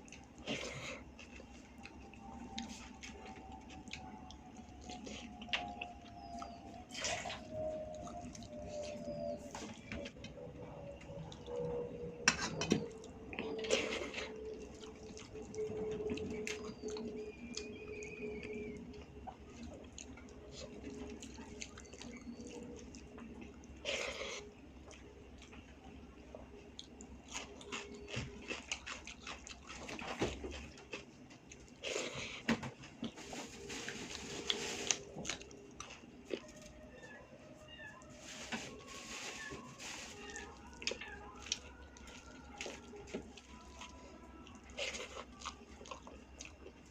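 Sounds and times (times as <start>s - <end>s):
chewing and mouth smacks: 0.0s - 10.0s, 13.0s - 33.4s, 34.5s - 37.1s, 40.2s - 46.9s
wet eating sounds: 0.0s - 46.9s.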